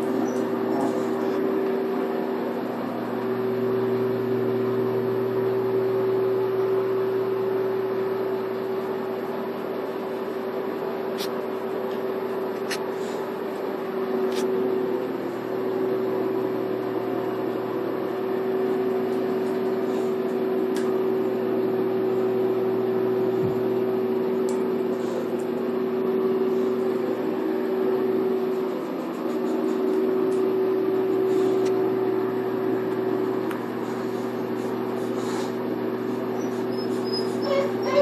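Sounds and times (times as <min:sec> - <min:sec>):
electric motor hum: 0:00.0 - 0:10.1, 0:11.7 - 0:38.0.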